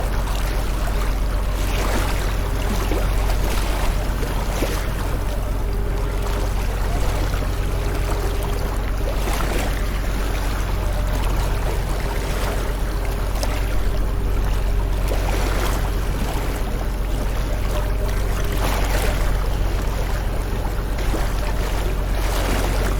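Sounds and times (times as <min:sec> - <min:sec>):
water splashes: 0:00.0 - 0:22.9.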